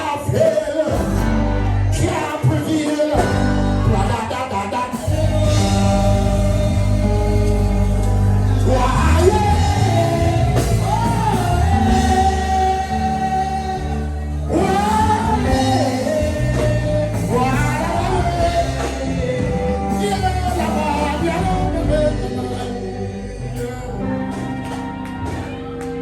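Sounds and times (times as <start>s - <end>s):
instrumental backing: 0.0s - 26.0s
person singing gospel: 0.0s - 26.0s.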